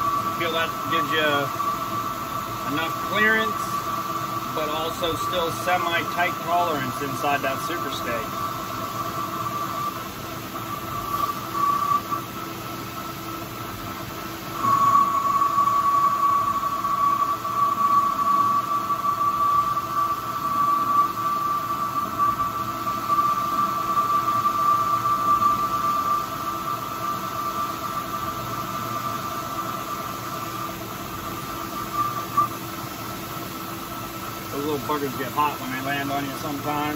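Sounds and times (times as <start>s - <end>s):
machine hum: 0.0s - 36.9s
metal lathe cutting whine: 0.0s - 36.9s.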